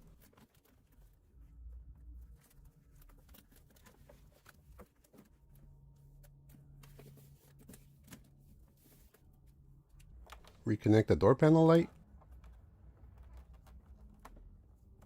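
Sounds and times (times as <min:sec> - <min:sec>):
faint clicks and plastic rustles: 0:00.0 - 0:10.7, 0:11.9 - 0:15.0.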